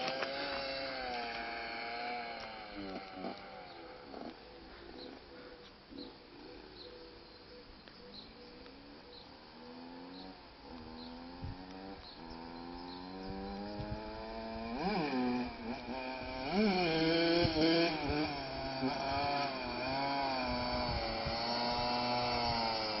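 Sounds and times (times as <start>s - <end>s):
two-stroke motorcycle engine revving: 0.0s - 5.2s, 9.1s - 23.0s.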